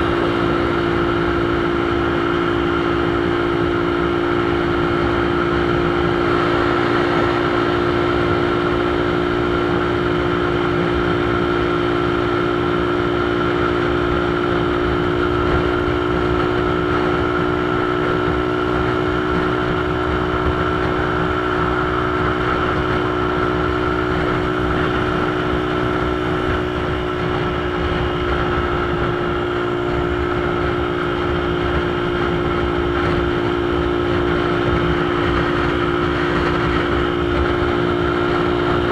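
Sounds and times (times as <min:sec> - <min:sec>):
motorcycle engine droning: 0:00.0 - 0:38.9
road and wind noise: 0:00.0 - 0:38.9.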